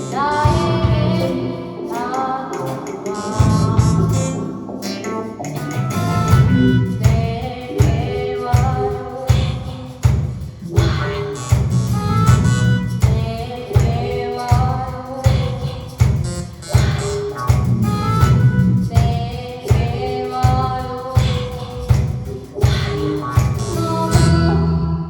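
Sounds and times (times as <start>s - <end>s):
live band music: 0.0s - 24.9s.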